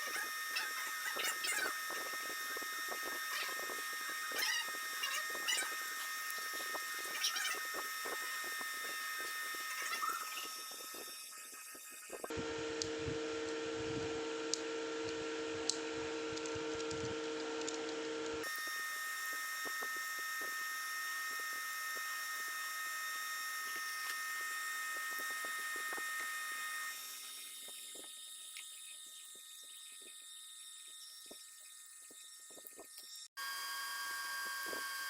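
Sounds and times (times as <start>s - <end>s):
rotary tool whining: 0.0s - 35.0s.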